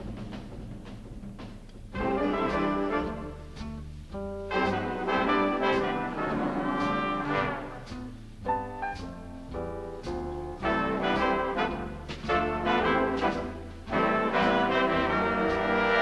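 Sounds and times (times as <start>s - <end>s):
brass dance-band music: 1.4s - 16.0s.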